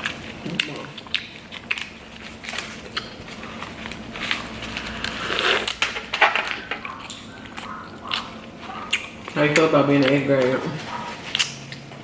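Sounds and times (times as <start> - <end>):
burrito being bitten and chewed: 0.0 - 12.0.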